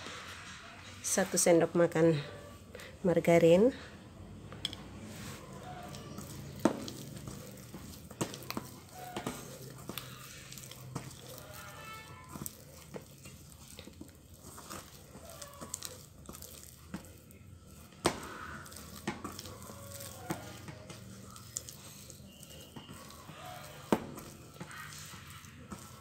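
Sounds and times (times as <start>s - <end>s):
hands kneading wet dough: 0.1s - 26.0s.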